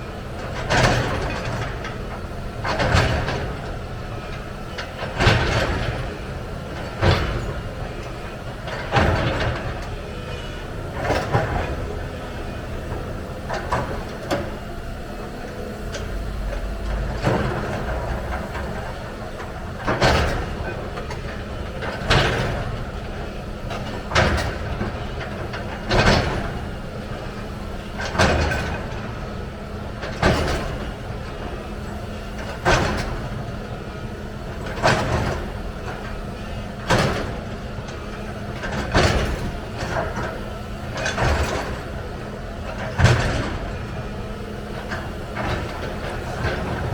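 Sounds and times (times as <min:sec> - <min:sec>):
excavator engine drone: 0:00.0 - 0:46.9.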